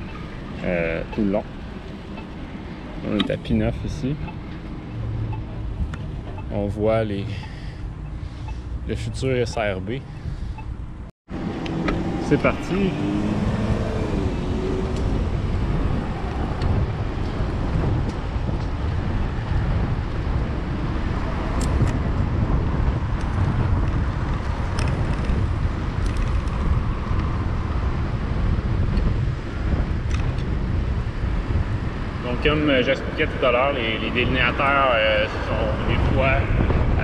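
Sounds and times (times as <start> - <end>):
wind rumbling on microphone: 0.0 - 37.0.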